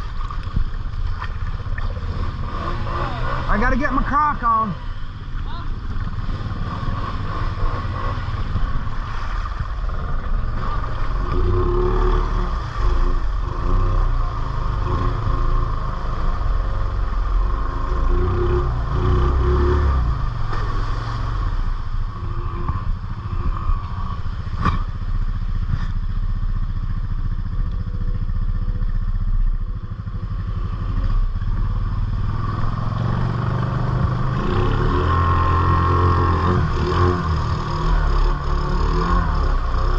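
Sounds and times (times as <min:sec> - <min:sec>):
atv engine revving under load: 0:01.6 - 0:05.0, 0:05.6 - 0:26.0, 0:30.1 - 0:39.9.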